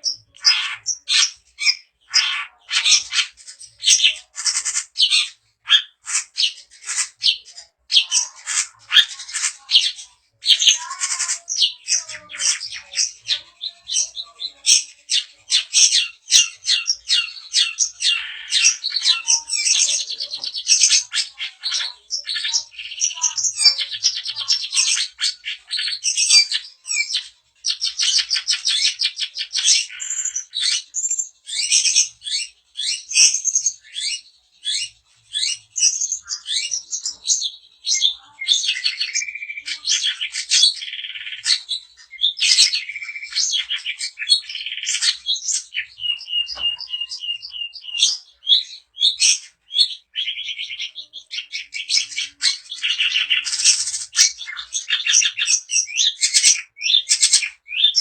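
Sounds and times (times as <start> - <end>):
shrike singing: 0.0 - 57.5.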